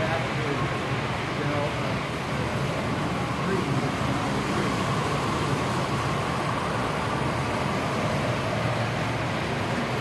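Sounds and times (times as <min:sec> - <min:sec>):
model train running on track: 0:00.0 - 0:10.0.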